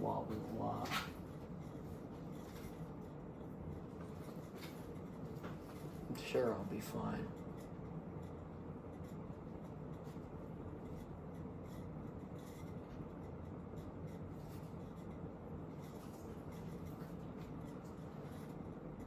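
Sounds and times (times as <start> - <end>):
ceiling fan whooshing and humming: 0.0 - 19.0.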